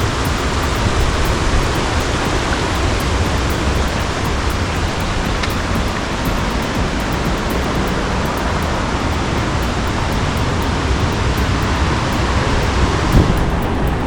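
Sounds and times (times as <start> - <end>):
water rushing over waterfall: 0.0 - 14.0.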